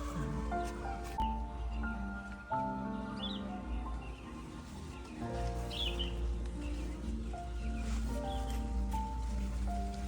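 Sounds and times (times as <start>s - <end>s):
bird chirping: 0.0s - 9.5s
music with long held notes: 0.0s - 10.0s.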